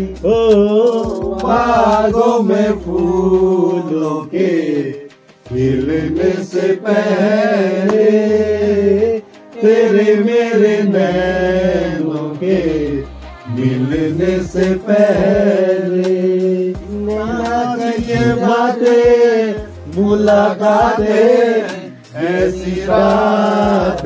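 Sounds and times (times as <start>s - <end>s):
men singing without instruments: 0.0s - 24.0s.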